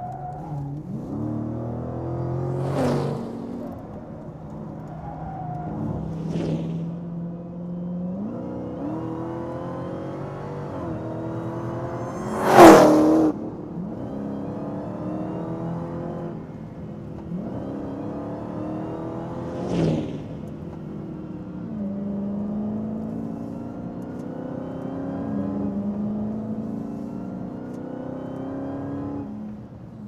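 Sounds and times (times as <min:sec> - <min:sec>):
car engine accelerating hard: 0:00.3 - 0:29.6.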